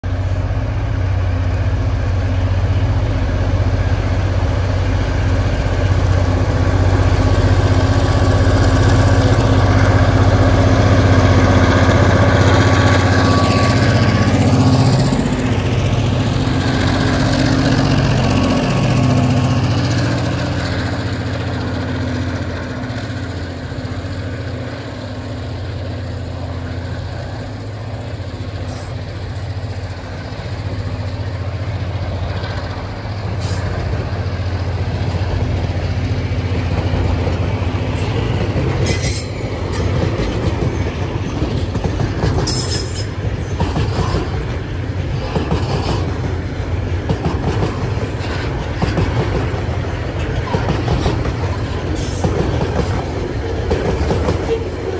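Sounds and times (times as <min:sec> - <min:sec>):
diesel locomotives passing: 0:00.0 - 0:54.9
train wagons running on rails: 0:00.0 - 0:54.9.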